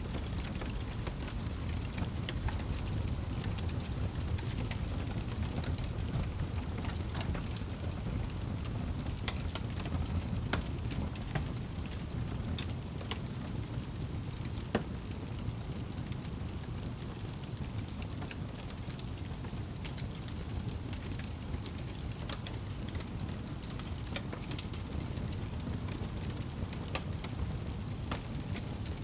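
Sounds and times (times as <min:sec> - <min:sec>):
steady rain hiss: 0:00.0 - 0:29.0
wood fire crackling: 0:00.0 - 0:29.0.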